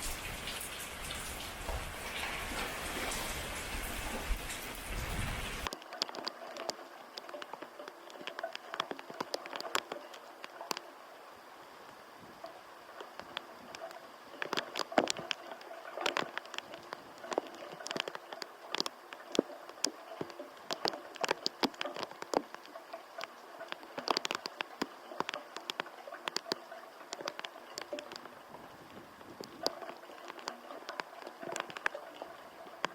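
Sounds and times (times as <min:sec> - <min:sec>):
faint steady hiss: 0:00.0 - 0:32.9
raindrops pattering: 0:00.0 - 0:32.9.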